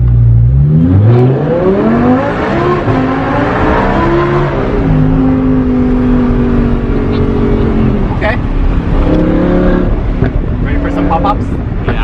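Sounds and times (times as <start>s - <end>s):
sports car engine accelerating: 0.0s - 12.0s.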